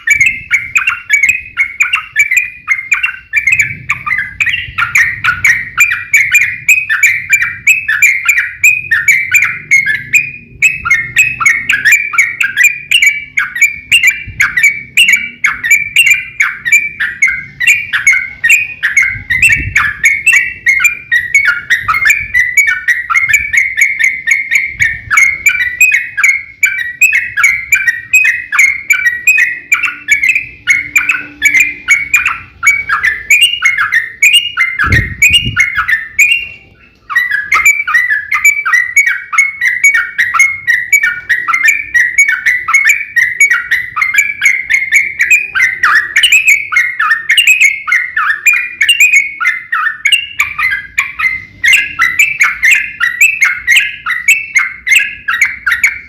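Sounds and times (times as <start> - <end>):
bird singing bubbly chattering: 0.0 - 56.0.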